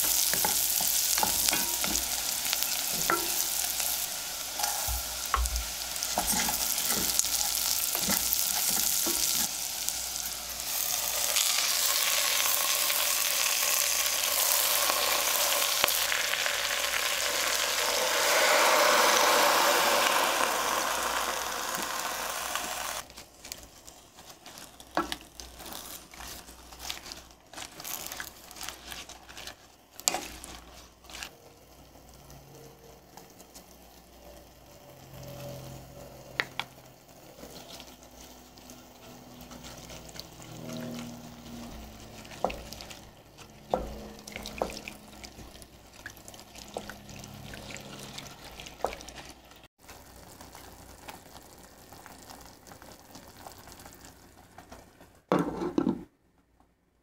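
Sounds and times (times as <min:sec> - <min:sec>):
food frying in a pot: 0:00.0 - 0:56.1.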